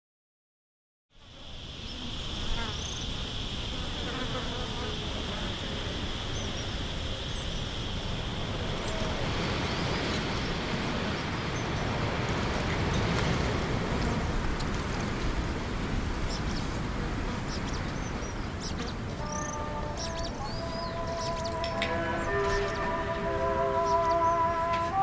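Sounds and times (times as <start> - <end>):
high insect drone: 1.2 - 25.0
insects buzzing: 1.2 - 25.0.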